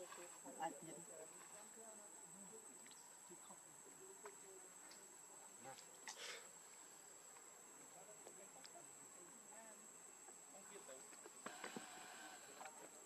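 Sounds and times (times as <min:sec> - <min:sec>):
faint high-pitched insect drone: 0:00.0 - 0:13.0.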